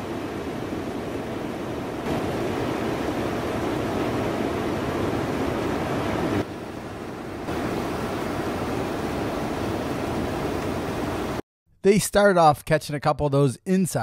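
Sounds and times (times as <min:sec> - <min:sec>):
ocean waves breaking: 0:00.0 - 0:11.4.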